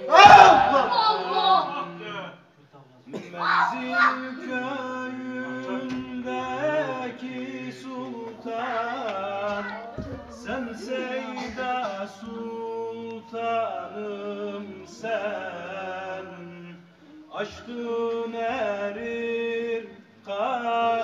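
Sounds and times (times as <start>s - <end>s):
man singing melismatic hymn: 3.1s - 9.8s, 10.4s - 21.0s.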